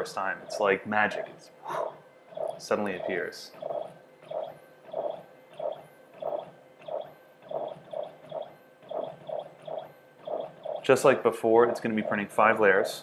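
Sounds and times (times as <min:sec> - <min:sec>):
printer motor whirring: 0:02.3 - 0:13.0.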